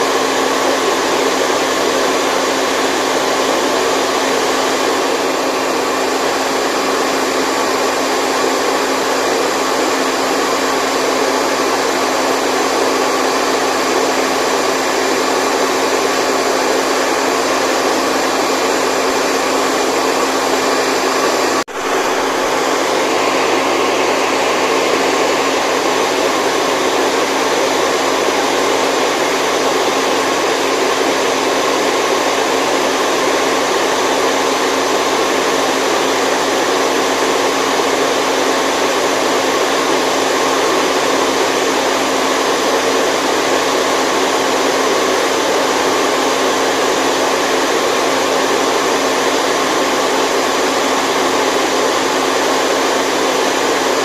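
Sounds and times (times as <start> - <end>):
electric blower motor: 0.0 - 54.0.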